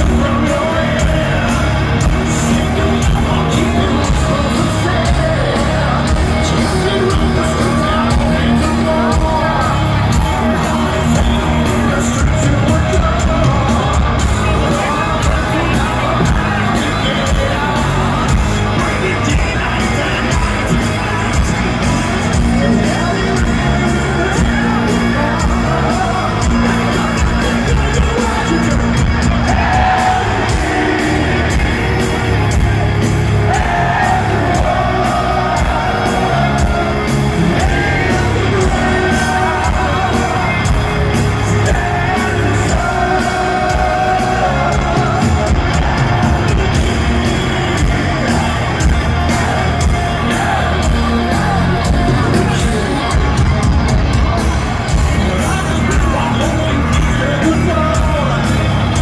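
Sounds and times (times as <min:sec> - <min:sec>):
heavy metal band playing live: 0:00.0 - 0:59.0
singer's vocals: 0:00.0 - 0:59.0.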